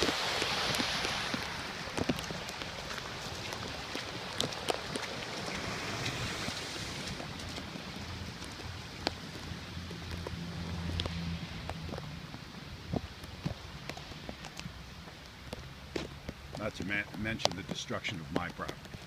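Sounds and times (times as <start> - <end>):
raindrops tapping close by: 0.0 - 19.0
runoff washing across road: 0.0 - 19.0
steady rain falling: 0.0 - 19.0.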